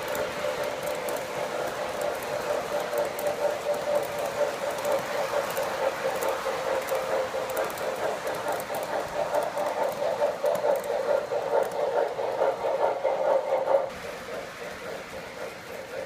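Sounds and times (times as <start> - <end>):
model train rattling on track: 0.0 - 16.0.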